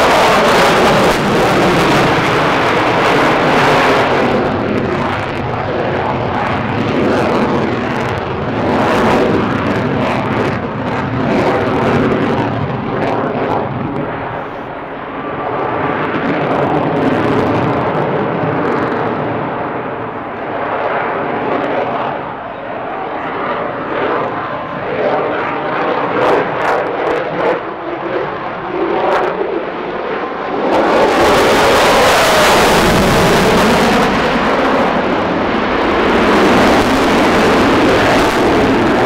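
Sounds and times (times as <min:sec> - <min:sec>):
jet engines in afterburner: 0:00.0 - 0:39.0.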